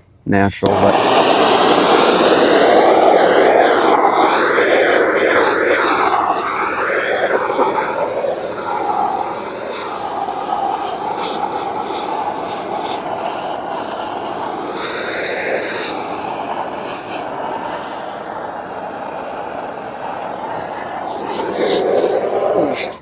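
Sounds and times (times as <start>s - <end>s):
torch flame burning: 0.6s - 23.0s.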